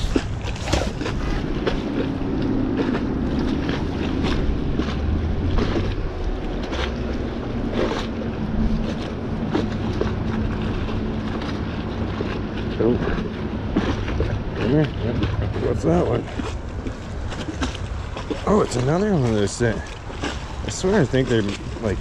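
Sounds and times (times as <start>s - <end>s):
steady low hum: 0.0s - 22.0s
wind buffeting microphone: 0.0s - 22.0s.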